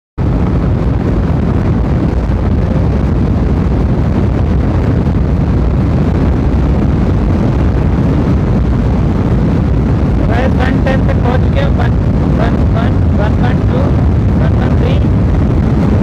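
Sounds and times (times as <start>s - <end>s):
wind rush over microphone: 0.2s - 16.0s.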